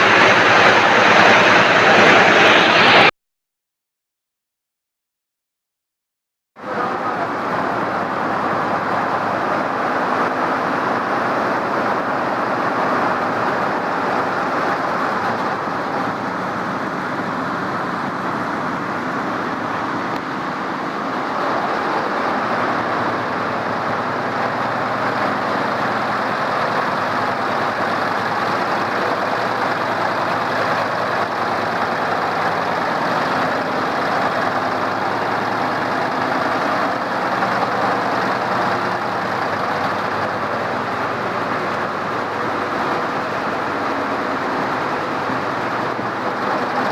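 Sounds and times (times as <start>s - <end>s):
embroidery machines clattering: 6.6s - 46.9s.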